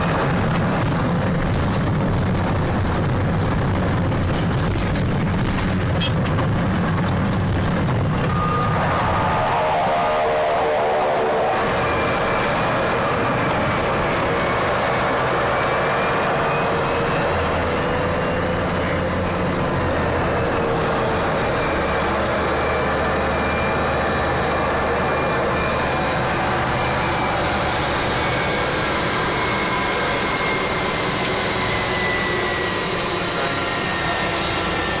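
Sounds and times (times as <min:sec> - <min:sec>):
high whine: 0:00.0 - 0:35.0
propeller plane engine running: 0:00.0 - 0:35.0.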